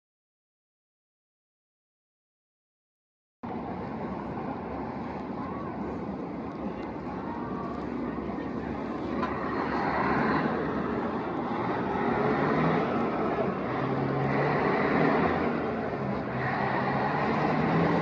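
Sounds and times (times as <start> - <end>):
cars driving past: 3.5 - 18.0.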